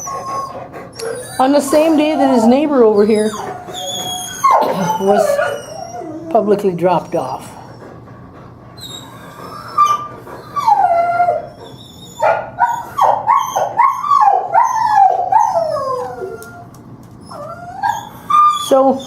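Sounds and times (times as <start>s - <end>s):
dog whining and howling: 0.0s - 6.5s, 8.8s - 19.0s.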